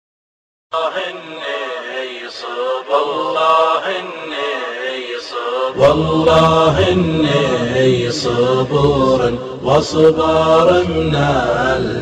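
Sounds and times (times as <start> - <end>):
male choir chanting: 0.7 - 12.0.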